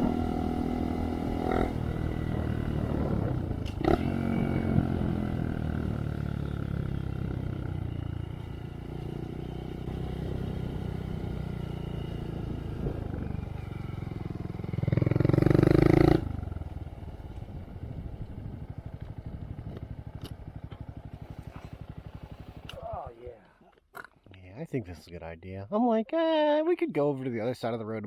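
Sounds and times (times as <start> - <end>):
motorcycle engine running and revving: 0.0 - 23.1.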